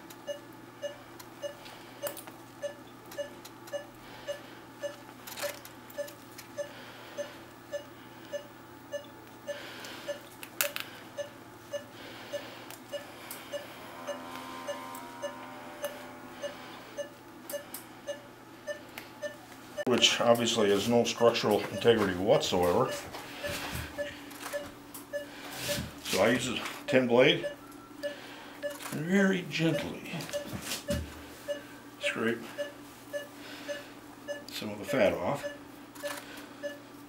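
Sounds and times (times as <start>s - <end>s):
low steady hum: 0.0s - 37.0s
patient monitor beeping: 0.2s - 37.0s.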